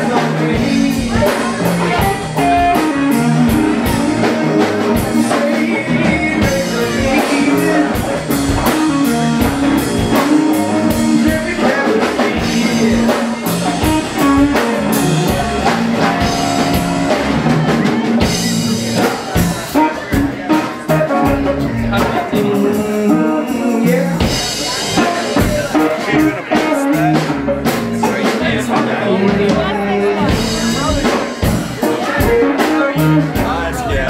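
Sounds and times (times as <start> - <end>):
blues-rock band playing: 0.0 - 34.0
electric bass notes: 0.0 - 34.0.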